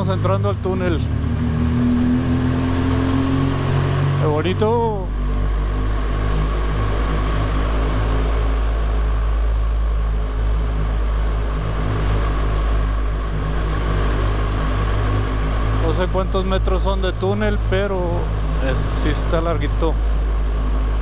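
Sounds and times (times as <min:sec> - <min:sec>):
motorcycle engine rumble in tunnel: 0:00.0 - 0:21.0.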